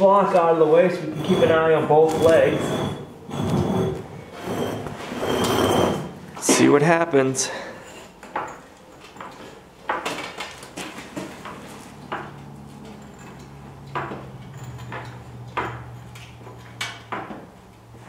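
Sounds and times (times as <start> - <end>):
floor jack clanking: 1.0 - 6.7, 8.3 - 17.6.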